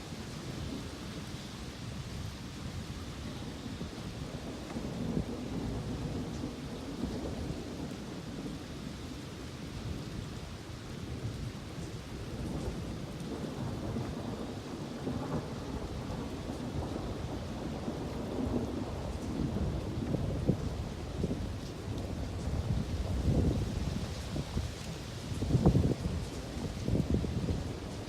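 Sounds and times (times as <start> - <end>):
rain hissing: 0.0 - 28.0
thunder rumbling: 2.2 - 10.4, 11.1 - 28.0.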